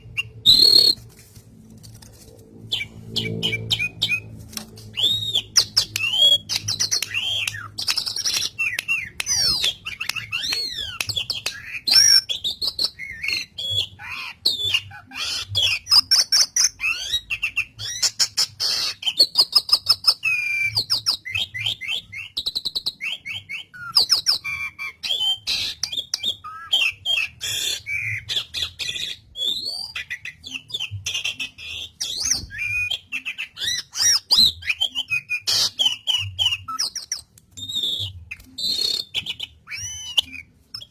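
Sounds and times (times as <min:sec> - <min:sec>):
starling singing: 0:00.0 - 0:01.0, 0:02.7 - 0:40.9.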